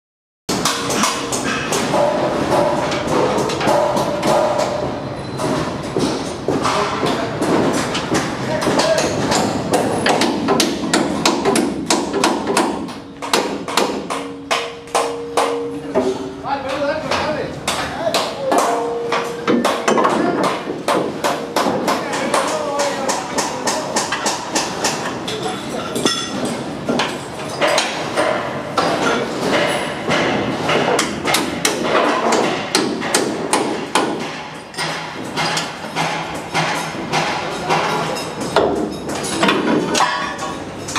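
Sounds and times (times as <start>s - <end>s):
hammer blows on metal panels: 0.5s - 40.9s
steady background noise: 0.5s - 40.9s.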